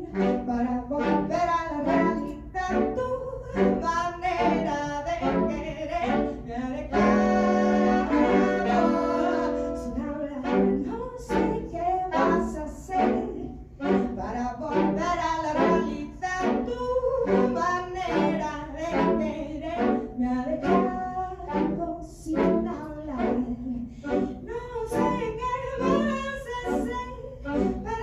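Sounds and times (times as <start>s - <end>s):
saxophone quartet playing: 0.0s - 28.0s.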